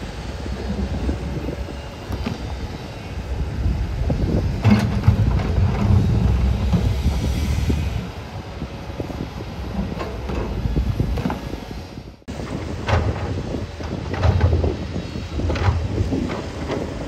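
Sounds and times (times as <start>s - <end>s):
bulldozer diesel engine rumbling: 0.0s - 17.0s.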